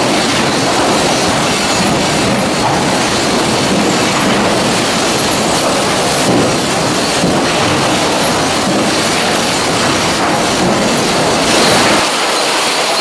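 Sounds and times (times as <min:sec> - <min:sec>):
chain conveyor clattering: 0:00.0 - 0:13.0.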